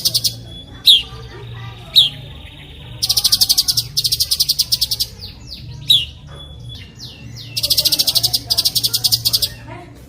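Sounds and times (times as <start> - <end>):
fast high bird trill: 0.0 - 9.7.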